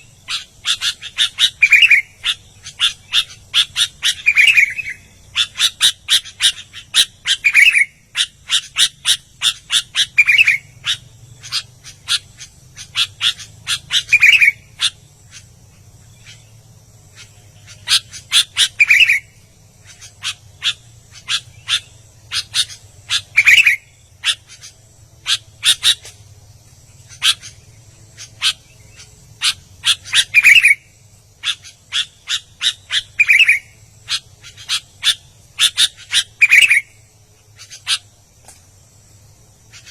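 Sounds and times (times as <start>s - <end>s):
bird singing sharp rapid chirps: 0.0s - 39.9s.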